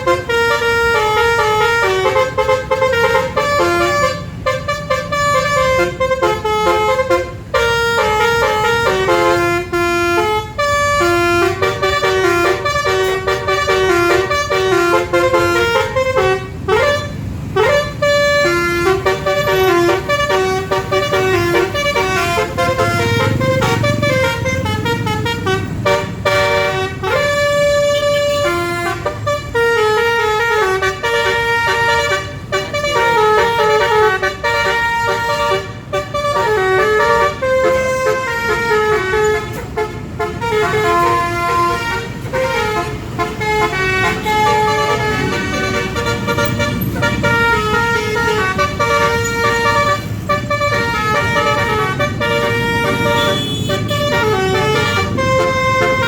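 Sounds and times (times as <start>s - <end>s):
musical air horn playing a tune: 0.0s - 56.0s
road and engine rumble: 0.0s - 56.0s.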